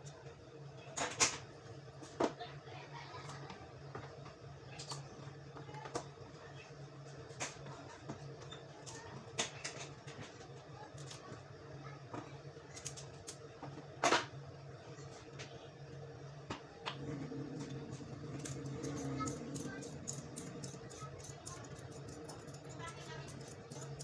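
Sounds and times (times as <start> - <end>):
steady low hum: 1.5 - 24.0.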